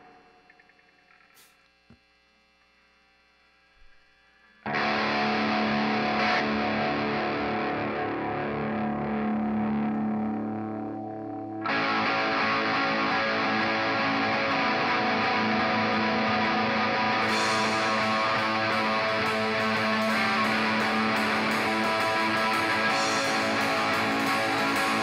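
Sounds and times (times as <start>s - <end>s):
distorted electric guitar: 3.8s - 25.0s.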